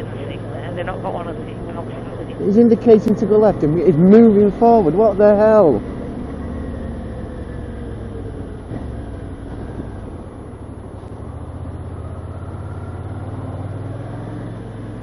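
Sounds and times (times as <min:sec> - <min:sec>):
motorcycle engine humming: 0:00.0 - 0:15.0.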